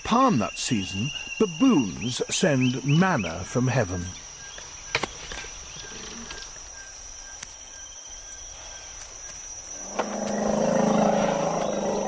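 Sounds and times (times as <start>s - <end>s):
high-pitched insect drone: 0.4s - 12.0s.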